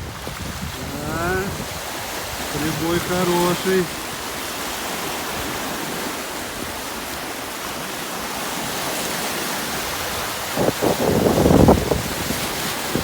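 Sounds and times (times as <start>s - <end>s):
wind buffeting microphone: 0.0s - 3.3s, 3.9s - 13.0s
waves breaking on shore: 0.0s - 13.0s.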